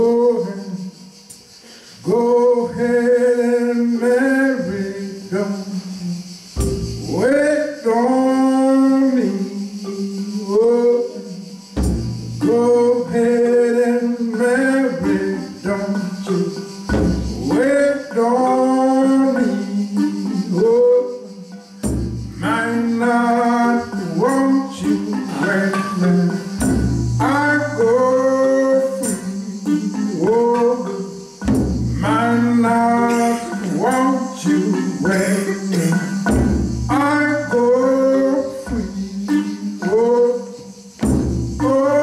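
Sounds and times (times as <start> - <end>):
man singing: 0.0 - 1.1, 2.0 - 11.7, 12.4 - 42.0
percussion: 0.0 - 42.0.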